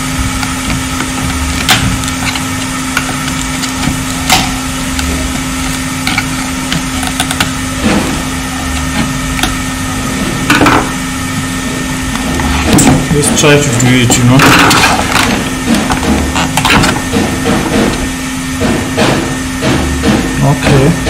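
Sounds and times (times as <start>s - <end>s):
steady electrical hum: 0.0s - 21.0s
tool scraping: 0.0s - 21.0s.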